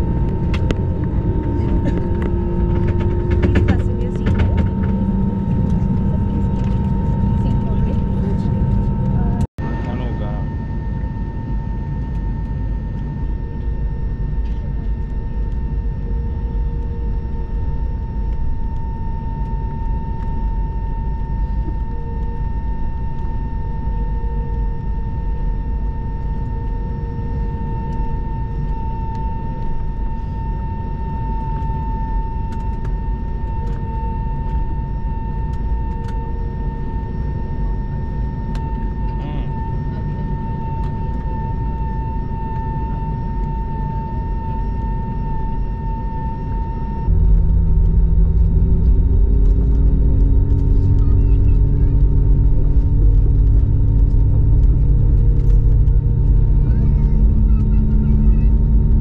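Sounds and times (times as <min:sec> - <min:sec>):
jet engine high whine: 0:00.0 - 0:59.0
jet engine low rumble: 0:00.0 - 0:59.0.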